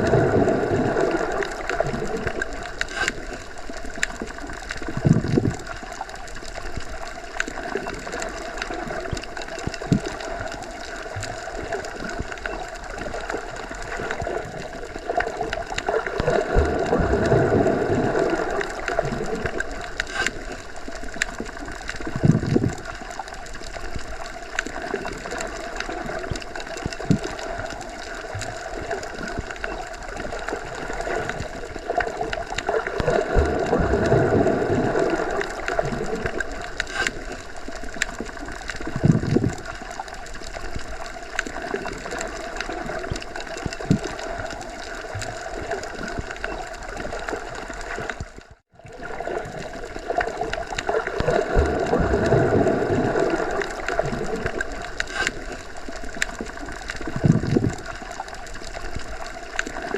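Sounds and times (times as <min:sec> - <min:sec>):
underwater rush of water: 0:00.0 - 0:59.9.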